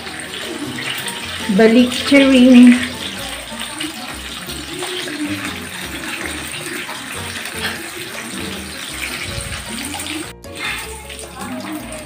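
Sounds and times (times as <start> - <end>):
bacon sizzling in a frying pan: 0.0 - 12.0.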